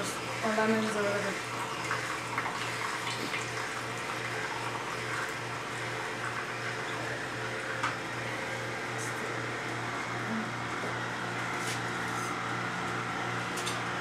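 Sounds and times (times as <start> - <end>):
juicer motor hum pulsing: 0.0 - 14.0.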